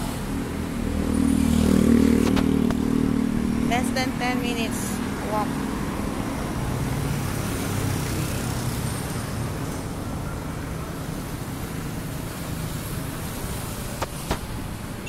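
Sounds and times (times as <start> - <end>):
road noise from passing vehicles: 0.0 - 15.0.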